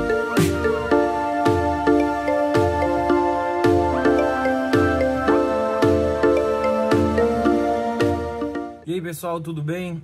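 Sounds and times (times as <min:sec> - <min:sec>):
sustained synth chords: 0:00.0 - 0:08.8.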